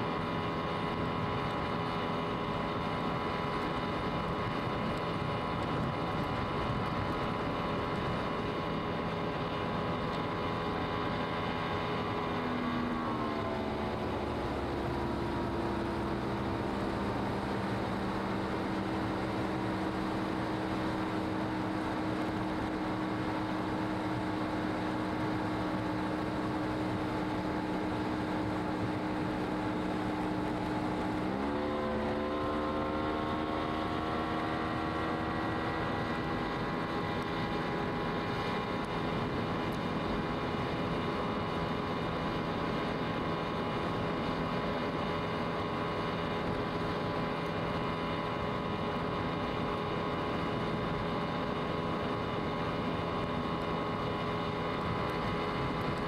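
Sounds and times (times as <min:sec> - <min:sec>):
motorboat engine running: 0:00.0 - 0:56.0
rush of wind and water: 0:00.0 - 0:56.0.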